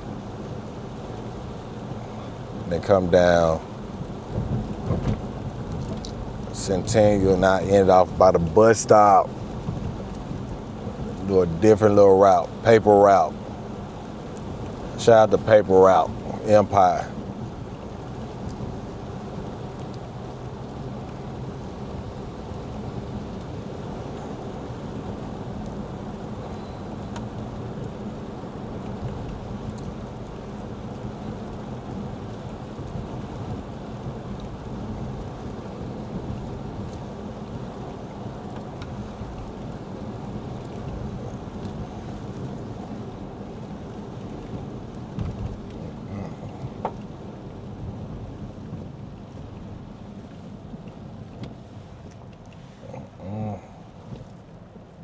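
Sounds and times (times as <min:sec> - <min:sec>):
low cabin hum: 0:00.0 - 0:55.0
rain: 0:00.0 - 0:55.0
tyre and road noise: 0:00.0 - 0:55.0.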